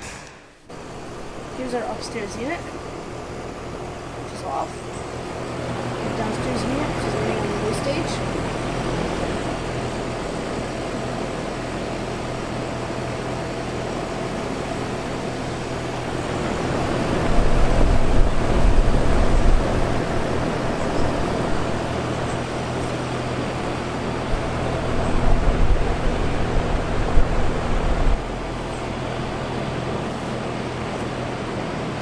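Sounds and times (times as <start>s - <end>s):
air conditioner fan humming: 0.0s - 32.0s.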